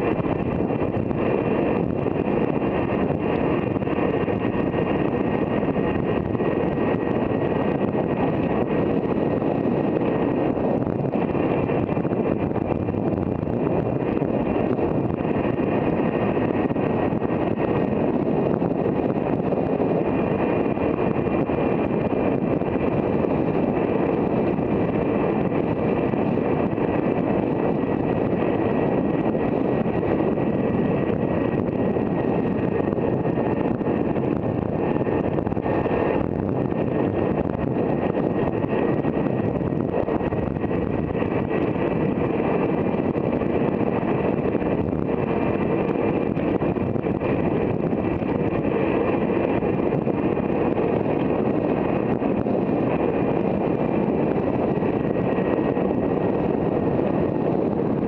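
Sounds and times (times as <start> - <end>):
high motor whine: 0.0 - 58.0
wind rushing over microphone: 0.0 - 58.0.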